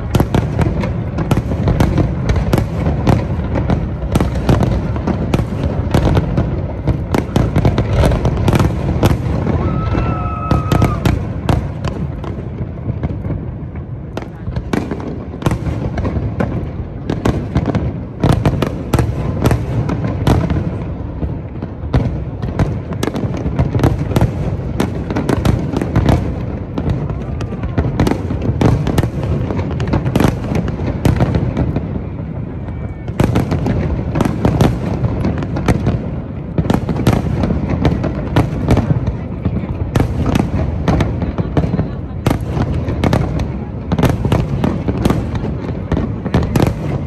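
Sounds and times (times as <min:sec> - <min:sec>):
fireworks bursting: 0:00.0 - 0:47.0.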